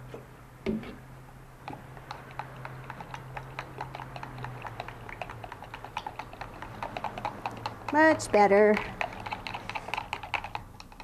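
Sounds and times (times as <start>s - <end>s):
stir stick tapping plastic container: 1.7s - 11.0s.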